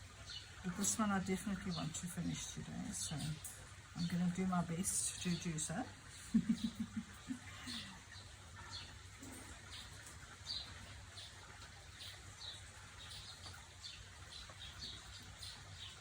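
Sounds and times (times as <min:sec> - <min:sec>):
faint bird chirping: 0:00.1 - 0:16.0.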